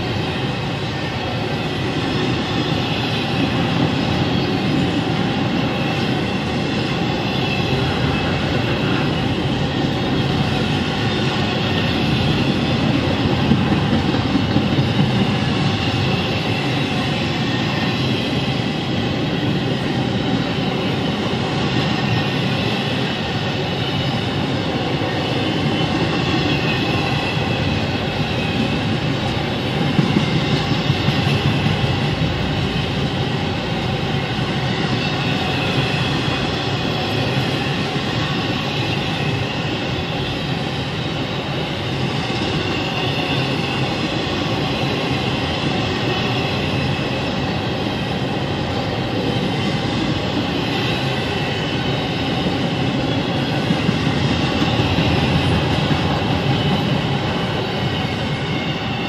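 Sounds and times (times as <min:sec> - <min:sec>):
loud train clatter: 0:00.0 - 0:59.0
train wheels rumbling and rattling: 0:00.0 - 0:59.0.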